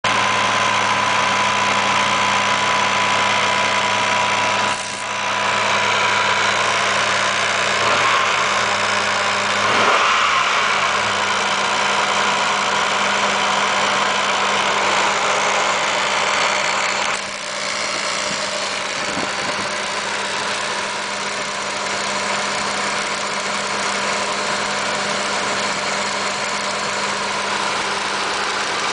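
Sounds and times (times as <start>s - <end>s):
car engine idling with ticking buzz: 0.1s - 28.9s.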